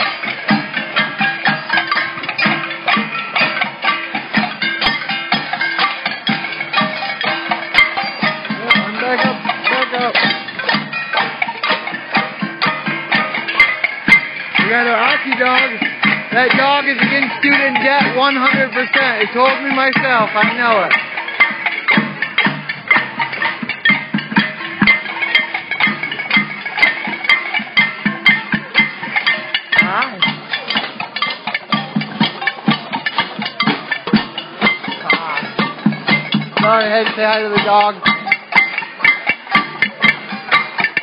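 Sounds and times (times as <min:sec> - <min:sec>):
pots and pans banging: 0:00.0 - 0:41.0.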